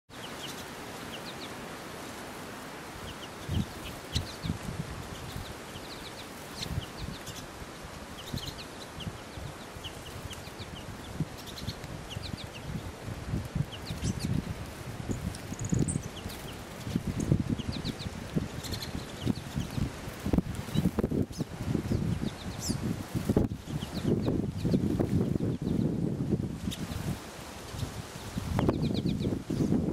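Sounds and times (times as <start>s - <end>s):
birds chirping: 0.1s - 2.2s, 2.8s - 26.0s, 26.6s - 29.9s
steady outdoor hiss: 0.1s - 29.9s.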